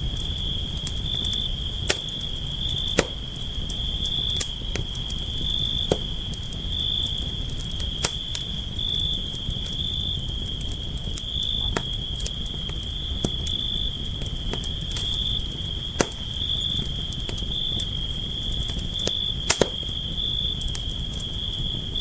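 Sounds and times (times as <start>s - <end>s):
campfire crackling and popping: 0.0s - 22.0s
crickets trilling: 0.0s - 22.0s.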